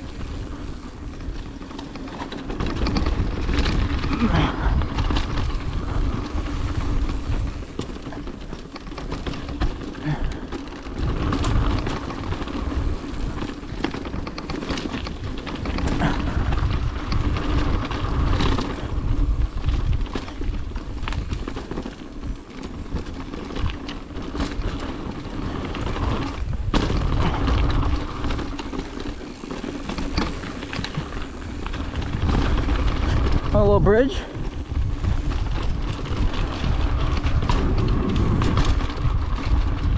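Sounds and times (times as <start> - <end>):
bike rattling over dirt: 0.0 - 39.9
wind buffeting microphone: 0.0 - 39.9.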